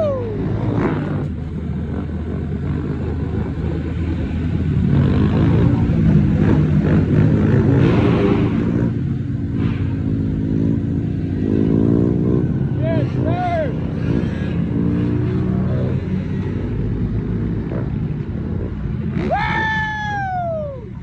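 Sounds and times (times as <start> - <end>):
mini-bike engines revving: 0.0 - 21.0.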